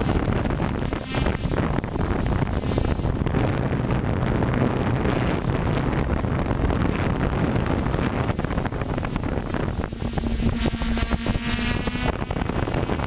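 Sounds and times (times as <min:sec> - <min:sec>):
drone motors and propellers: 0:00.0 - 0:13.0
wind buffeting microphone: 0:00.0 - 0:13.0.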